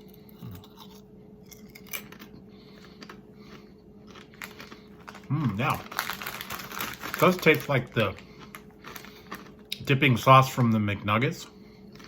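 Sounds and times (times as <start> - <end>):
chewing crunchy potato chip: 0.0 - 10.7, 11.4 - 12.0
low steady hum: 0.0 - 12.0.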